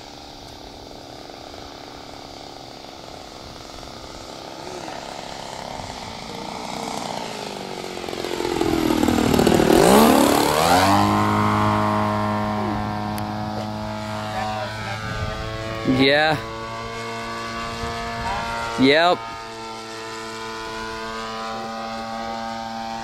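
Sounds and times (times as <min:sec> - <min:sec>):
model airplane engine droning: 0:00.0 - 0:23.0.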